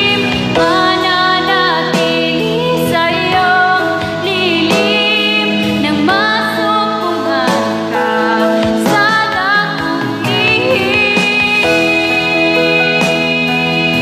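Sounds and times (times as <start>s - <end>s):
backing music of sustained chords: 0.0s - 14.0s.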